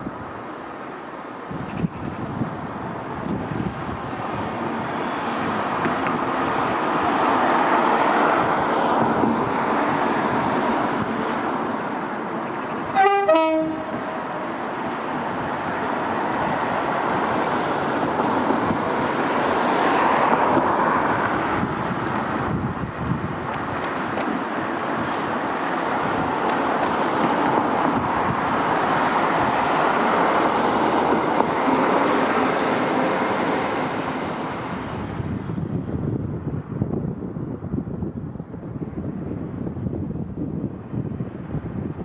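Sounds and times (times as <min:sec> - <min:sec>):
train wheels rumbling on rail: 0:01.5 - 0:42.0.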